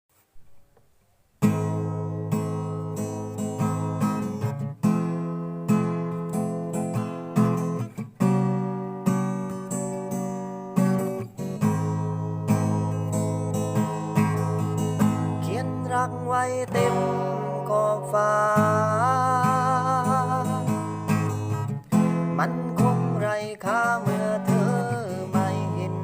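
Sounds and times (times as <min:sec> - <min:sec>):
acoustic guitar strumming: 0:00.2 - 0:26.0.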